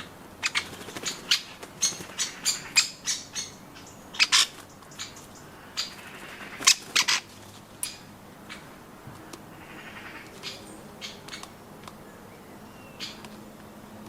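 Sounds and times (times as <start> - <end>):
birds clicking and knocking at nuts: 0.0 - 12.0, 13.0 - 14.0.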